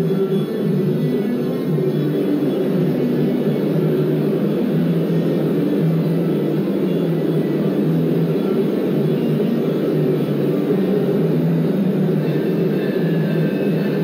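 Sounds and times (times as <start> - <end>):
tattoo machine humming: 0.0 - 14.0.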